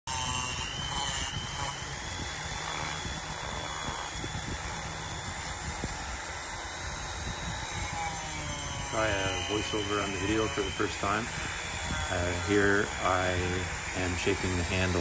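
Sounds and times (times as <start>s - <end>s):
rotary tool high whine: 0.0s - 15.0s
rasp of wood being ground: 0.1s - 15.0s.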